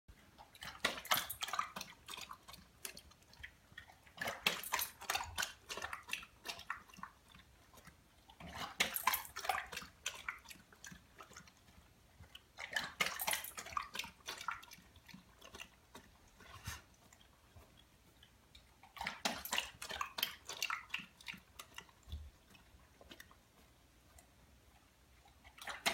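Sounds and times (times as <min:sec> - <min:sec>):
dog splashing water in bowl: 0:00.2 - 0:23.6, 0:25.3 - 0:25.9.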